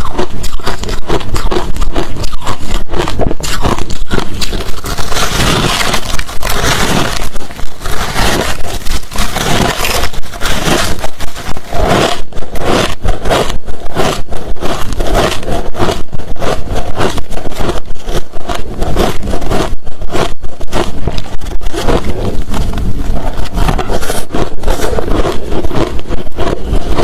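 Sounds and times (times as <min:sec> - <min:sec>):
ice being chewed: 0:00.0 - 0:27.0.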